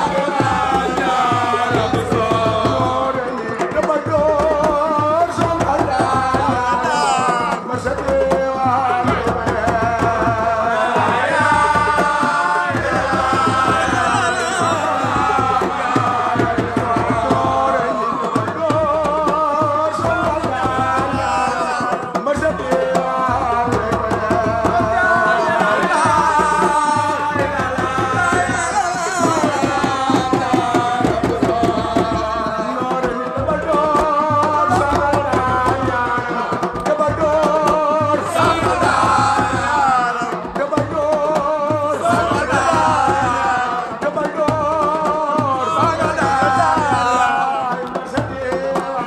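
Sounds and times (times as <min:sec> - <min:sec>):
hand drums and percussion: 0:00.0 - 0:49.0.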